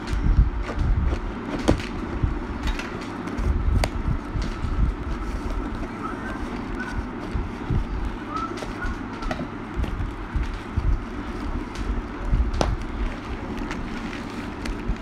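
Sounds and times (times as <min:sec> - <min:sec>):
cardboard flaps scraping: 0:00.0 - 0:02.3, 0:03.1 - 0:15.0
continuous low rumble: 0:00.0 - 0:15.0.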